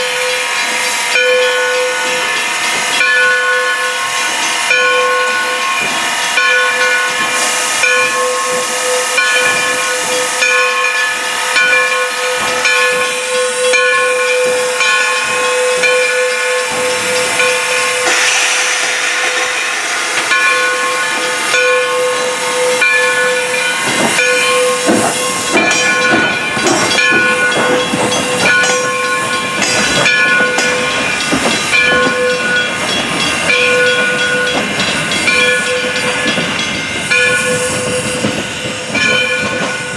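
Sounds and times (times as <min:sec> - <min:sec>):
steam hissing: 0:00.0 - 0:39.9.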